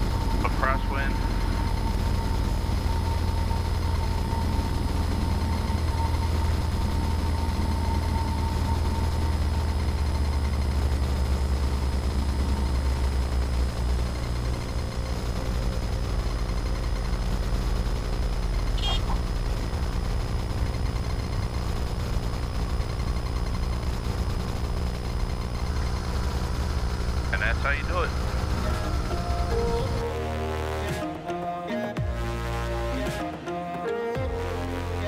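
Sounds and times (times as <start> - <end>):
airplane engine drone in cabin: 0.0 - 31.2.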